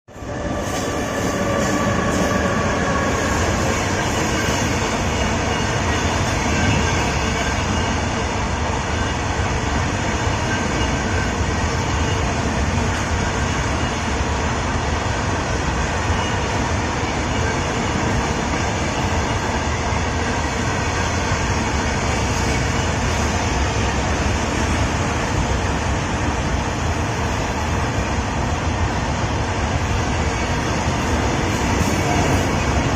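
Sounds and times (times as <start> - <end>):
train wheels rumbling on track: 0.1 - 32.9.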